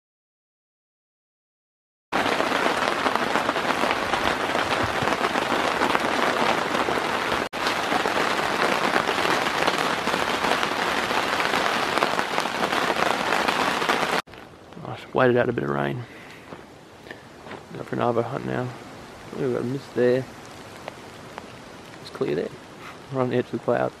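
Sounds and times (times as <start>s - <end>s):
rain on a tent fly: 2.1s - 24.0s
rain falling: 2.2s - 24.0s.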